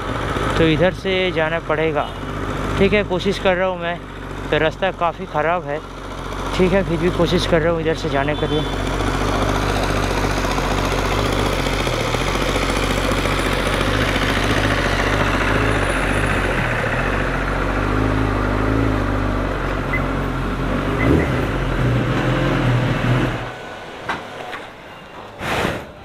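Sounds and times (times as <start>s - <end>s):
motorcycle engine near idle: 0.0s - 21.7s.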